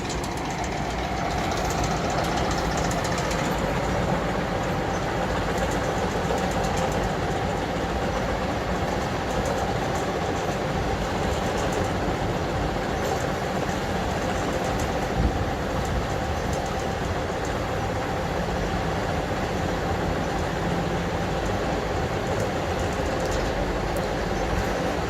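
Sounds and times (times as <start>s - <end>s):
slurry mixer machinery drone: 0.0s - 25.0s.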